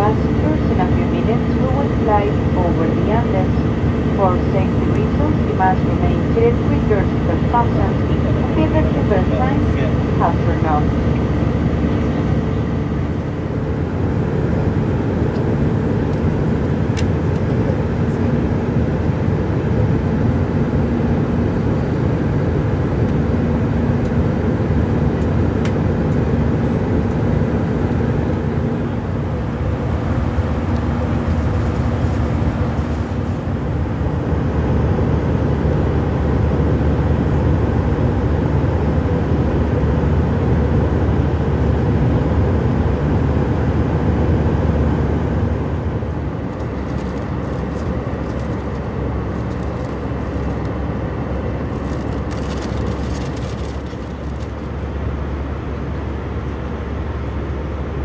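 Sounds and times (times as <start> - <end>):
aircraft cabin engine roar: 0.0 - 58.0
faint hum: 0.0 - 58.0.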